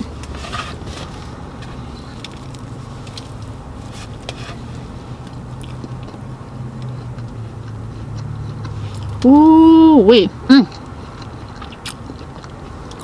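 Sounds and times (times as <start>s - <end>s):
person chewing donut: 0.0s - 9.3s, 10.7s - 13.0s.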